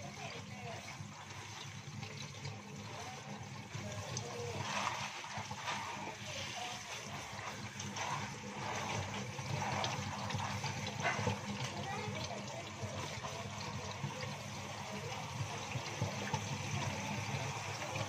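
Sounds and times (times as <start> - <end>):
water draining into sink: 0.0 - 18.0.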